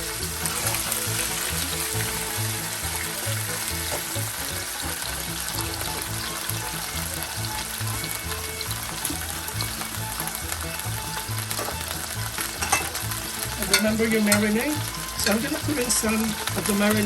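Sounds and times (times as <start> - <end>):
background music with bass line: 0.0 - 17.0
chicken sizzling in oil: 0.0 - 17.0.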